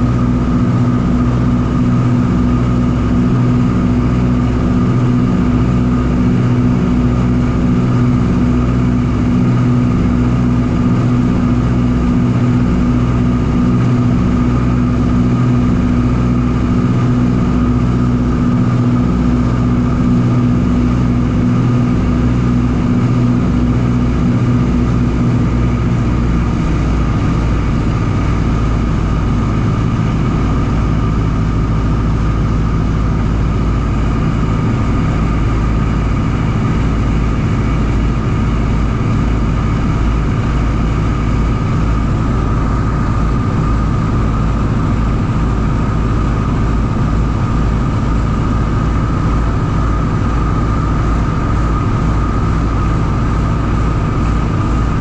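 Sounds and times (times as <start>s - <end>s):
propeller aircraft engines droning: 0.0s - 55.0s.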